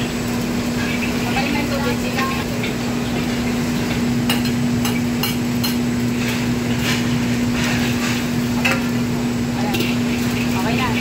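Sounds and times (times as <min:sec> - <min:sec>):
wok range and hood hum: 0:00.0 - 0:11.0.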